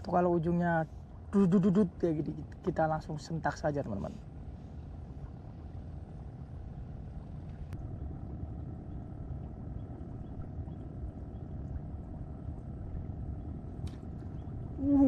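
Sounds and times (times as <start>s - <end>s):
wind rumble on microphone: 2.4s - 15.0s.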